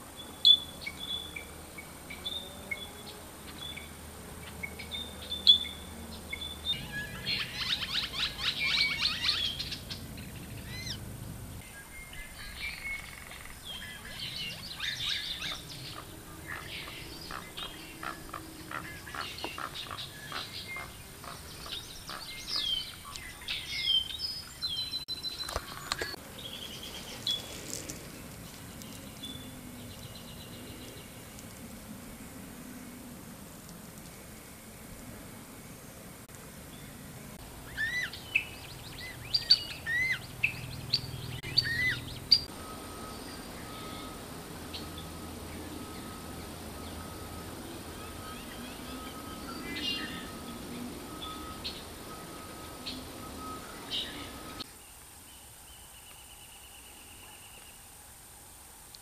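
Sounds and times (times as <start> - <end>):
birds chirping: 0.0 - 31.8, 33.6 - 58.0.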